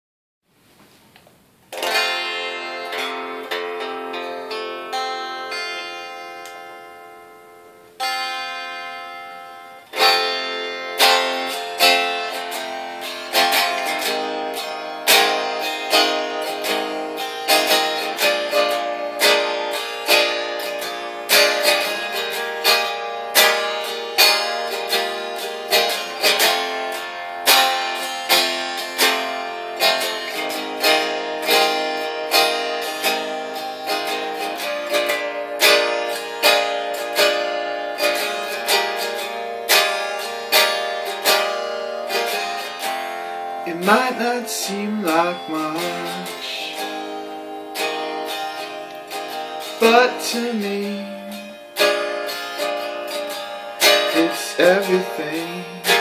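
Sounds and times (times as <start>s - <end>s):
acoustic guitar strumming: 1.5s - 56.0s.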